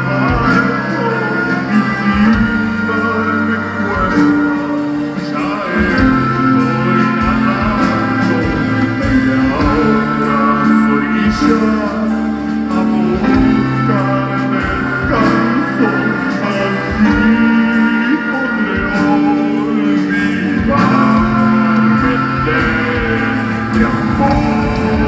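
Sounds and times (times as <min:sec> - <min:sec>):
live band music: 0:00.0 - 0:25.0.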